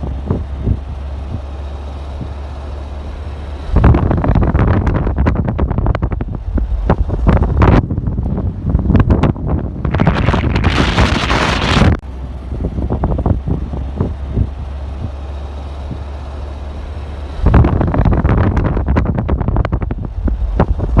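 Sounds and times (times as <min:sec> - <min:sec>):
wind buffeting microphone: 0:00.0 - 0:02.6, 0:03.6 - 0:16.2, 0:17.3 - 0:21.0.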